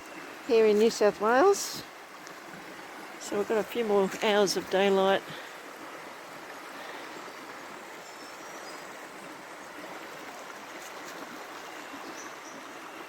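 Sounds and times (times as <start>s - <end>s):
river flowing: 0.0s - 13.0s.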